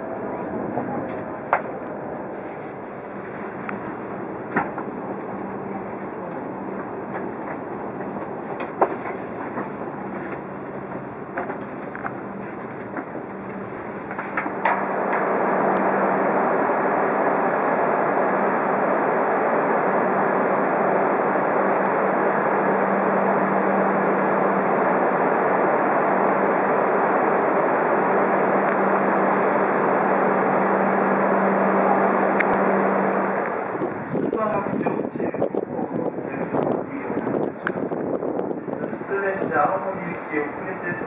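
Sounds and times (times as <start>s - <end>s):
rushing drone: 0.0s - 41.0s
train running noise: 0.0s - 41.0s.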